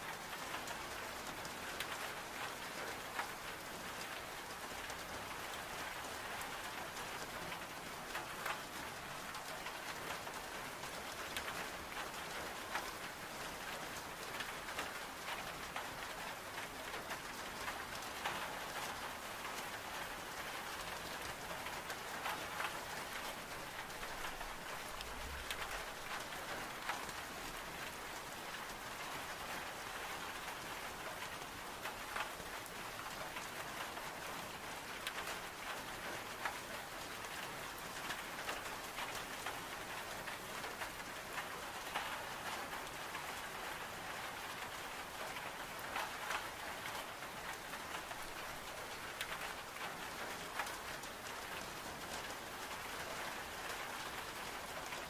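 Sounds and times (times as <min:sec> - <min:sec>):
rain on window glass: 0:00.0 - 0:55.0.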